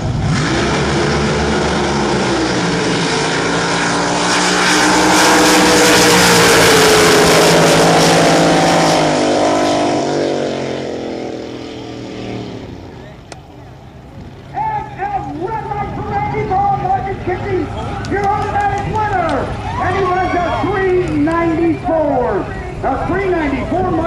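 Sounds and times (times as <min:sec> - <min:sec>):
racing boat engine passing: 0:00.0 - 0:24.0.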